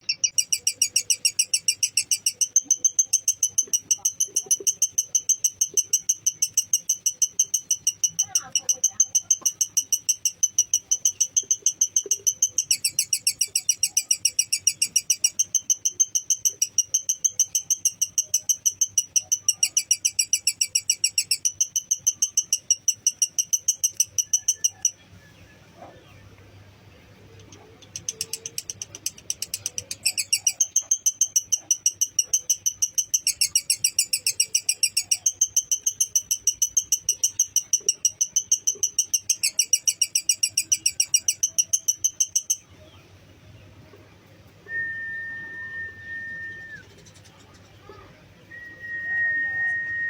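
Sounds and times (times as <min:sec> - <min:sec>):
bird chattering shrill chirps: 0:00.0 - 0:25.0, 0:27.4 - 0:42.8.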